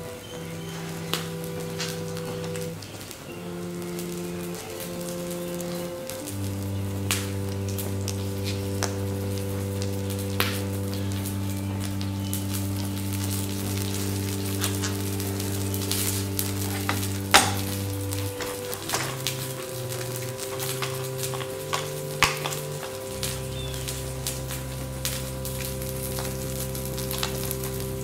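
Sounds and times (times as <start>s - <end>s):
burning plastic crackling: 0.0s - 28.0s
fire popping: 0.0s - 28.0s
low held drone: 0.0s - 28.0s.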